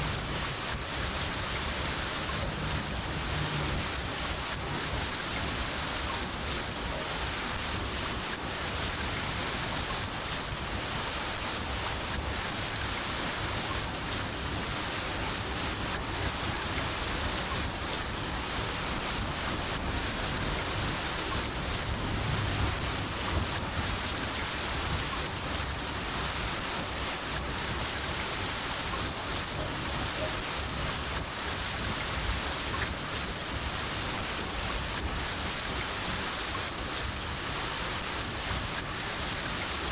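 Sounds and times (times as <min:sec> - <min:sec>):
cricket chirping: 0:00.0 - 0:21.1, 0:22.1 - 0:39.9
rain falling: 0:00.0 - 0:39.9.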